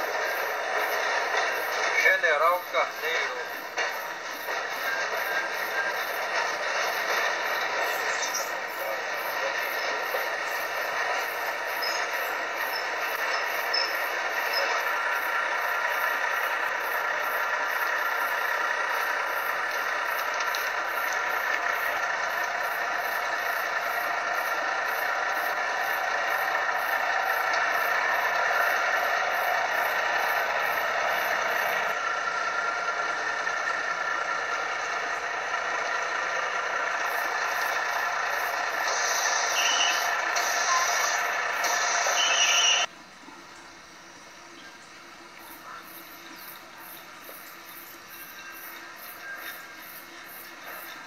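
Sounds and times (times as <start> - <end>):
train rumbling and rattling: 0.0 - 43.0, 45.2 - 51.0.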